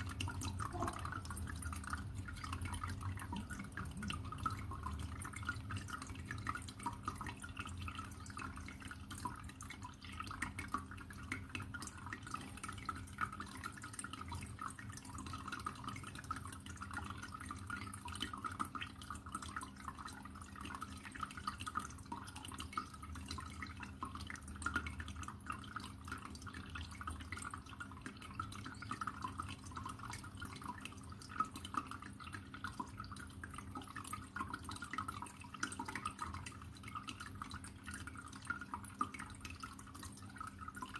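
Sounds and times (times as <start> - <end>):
faint low hum: 0.0 - 40.9
water trickling with drips: 0.0 - 40.9.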